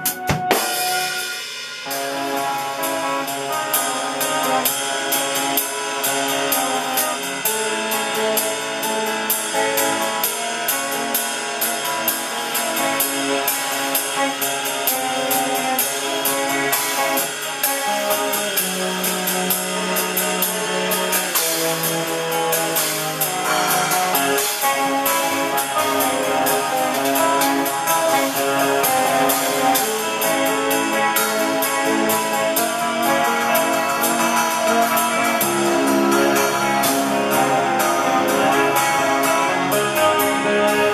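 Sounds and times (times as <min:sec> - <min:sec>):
cymbal strokes: 0:00.0 - 0:40.9
drum kit beat: 0:00.0 - 0:40.9
electric guitar: 0:00.0 - 0:40.9.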